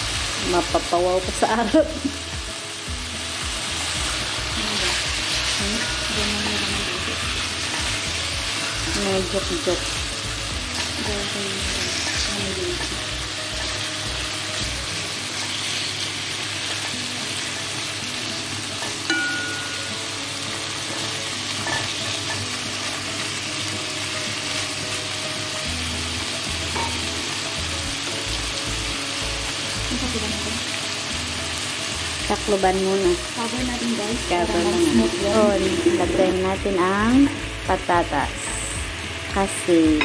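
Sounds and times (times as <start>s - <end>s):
chicken sizzling in a pan: 0.0s - 40.0s.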